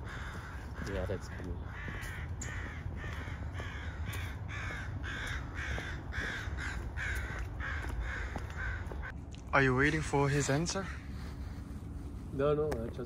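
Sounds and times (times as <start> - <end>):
crows cawing: 0.0 - 12.3.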